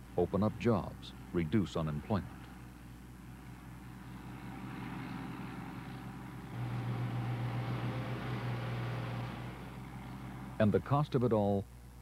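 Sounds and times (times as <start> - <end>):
low engine drone: 0.0 - 10.9.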